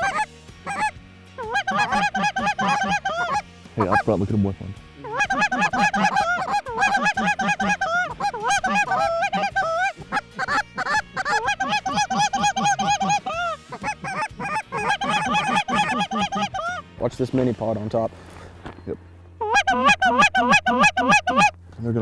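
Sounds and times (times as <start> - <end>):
geese calling: 0.0 - 4.3, 5.0 - 18.8, 19.4 - 21.6.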